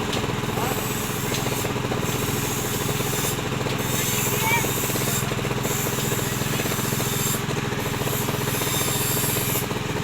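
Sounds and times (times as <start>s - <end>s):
cultivator engine running: 0.0s - 10.0s.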